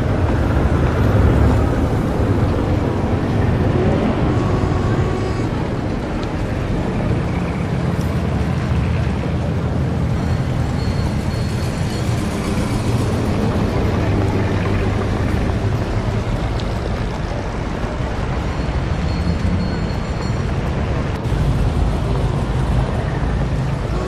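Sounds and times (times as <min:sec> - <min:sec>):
low rumble of motor traffic: 0:00.0 - 0:24.0.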